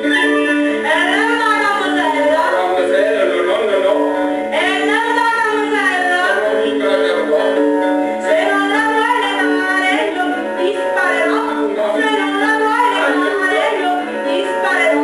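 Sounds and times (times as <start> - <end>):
woman singing: 0.0 - 2.7, 4.5 - 7.0, 8.1 - 15.0
instrumental accompaniment: 0.0 - 15.0.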